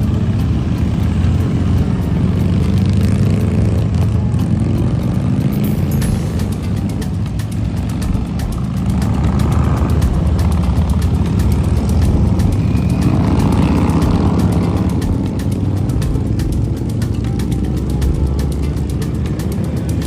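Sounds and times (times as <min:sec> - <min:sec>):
motorcycle engines low rumble: 0:00.0 - 0:20.0.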